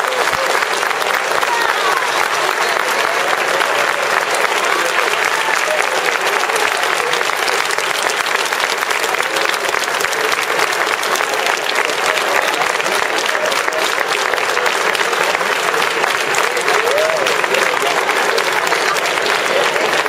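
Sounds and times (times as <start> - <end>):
crowd applauding: 0.0 - 20.0
crowd voices: 0.0 - 20.0.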